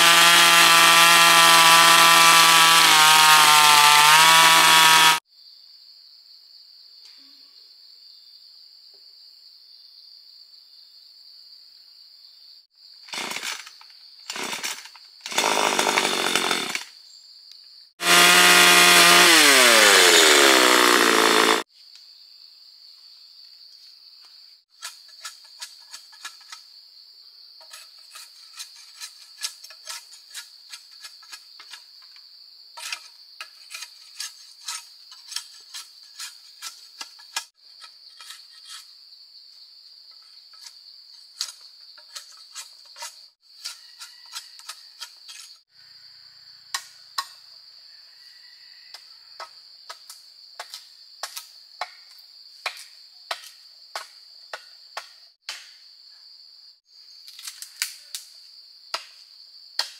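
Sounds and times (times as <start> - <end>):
insects droning: 5.3 - 59.9.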